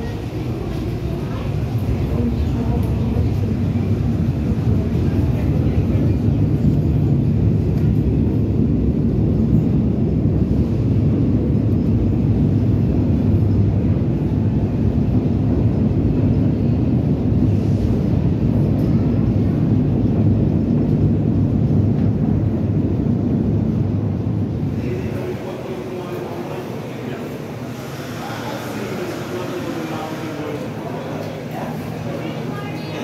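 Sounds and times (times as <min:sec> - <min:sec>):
subway train low rumble: 0:00.0 - 0:33.0.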